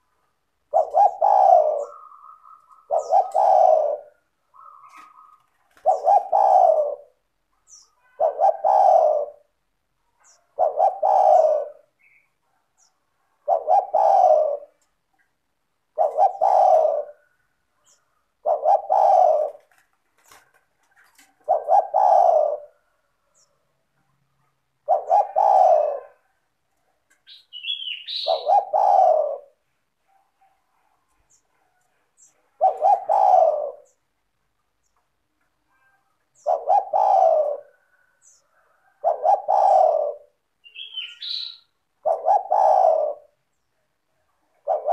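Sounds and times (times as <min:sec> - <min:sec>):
dove cooing: 0:00.6 - 0:15.0, 0:15.8 - 0:23.6, 0:24.3 - 0:34.1, 0:36.3 - 0:44.9.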